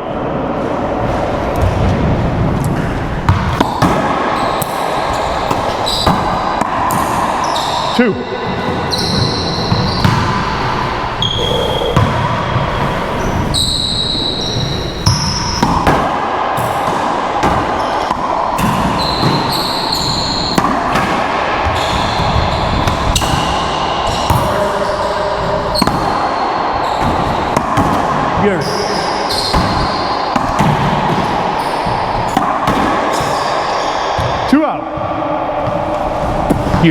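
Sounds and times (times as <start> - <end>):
ball smacking racquets and walls: 0.6 - 36.9
shoe squeals: 2.6 - 16.0, 16.6 - 36.9.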